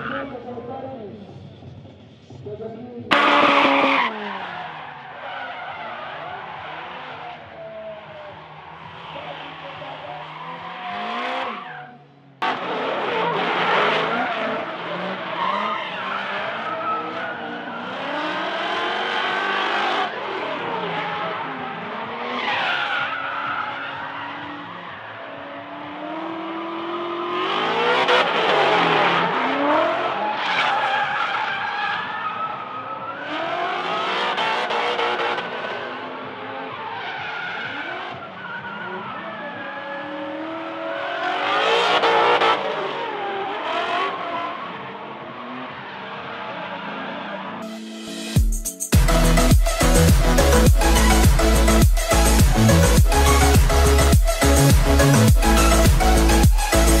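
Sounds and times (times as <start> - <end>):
tyres squealing and skidding: 0.0 - 0.6, 3.1 - 47.7, 48.9 - 57.0
engines revving: 0.0 - 31.2, 31.9 - 47.6, 49.0 - 57.0.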